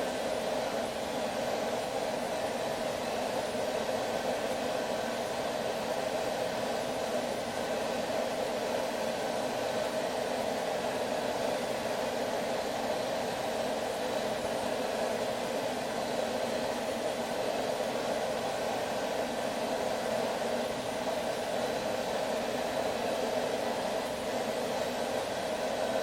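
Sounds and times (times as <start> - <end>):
forge burner rushing hum: 0.0 - 26.0.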